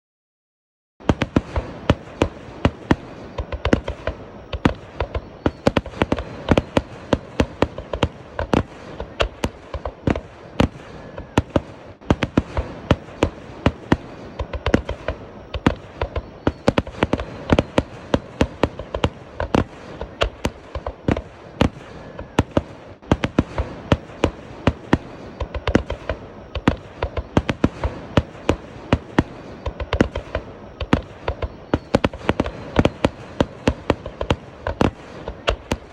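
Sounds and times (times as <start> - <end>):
fireworks bangs and cracks: 1.0 - 35.9
steady background noise: 1.6 - 35.9.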